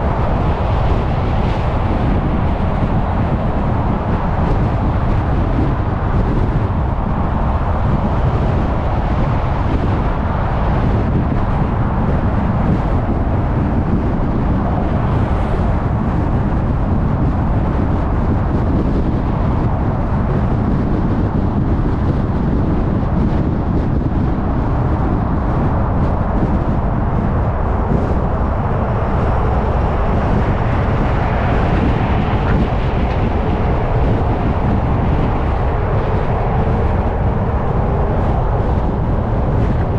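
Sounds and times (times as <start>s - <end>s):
car engine rumble: 0.0s - 39.9s
tyre and road noise: 0.0s - 39.9s
wind noise: 0.0s - 39.9s.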